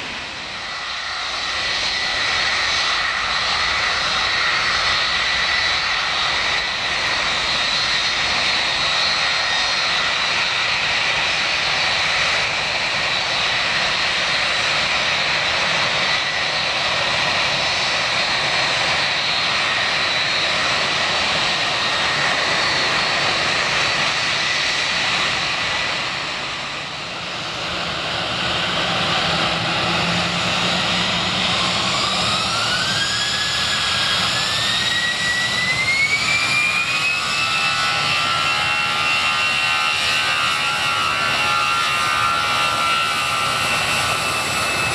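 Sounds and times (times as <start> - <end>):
jet engines roaring with whine: 0.0 - 44.9
jet engines spooling up: 0.0 - 44.9.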